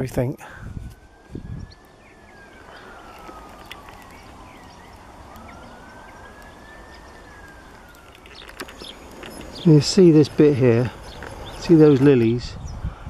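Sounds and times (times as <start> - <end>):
siren wailing faintly: 0.0 - 13.0.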